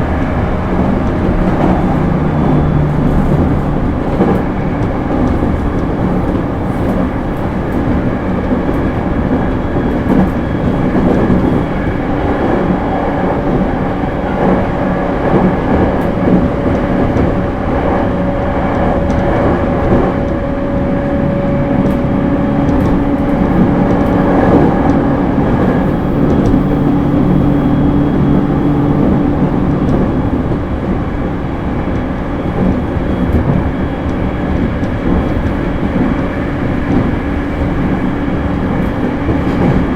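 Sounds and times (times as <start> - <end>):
electric train motor hum: 0.0 - 39.9
train wheels rumbling on rail: 0.0 - 39.9.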